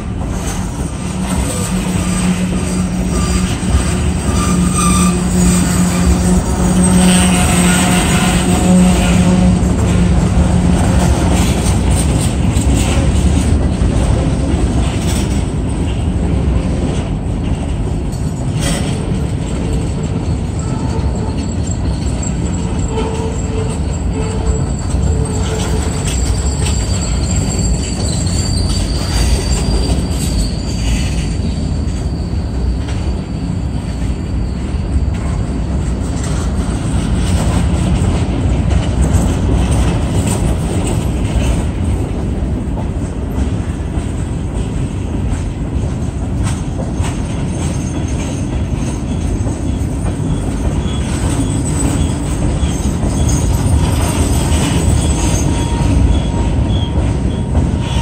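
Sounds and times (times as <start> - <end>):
freight cars knocking and clanking: 0.0 - 58.0
train wheels rumbling on rails: 0.0 - 58.0
wheels squealing: 0.4 - 15.4, 18.2 - 41.6, 46.5 - 58.0.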